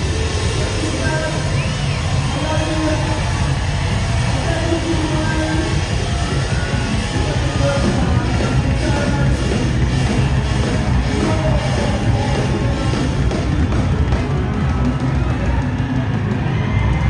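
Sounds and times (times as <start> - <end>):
drums steady beat: 0.0 - 17.0
rock band playing live: 0.0 - 17.0.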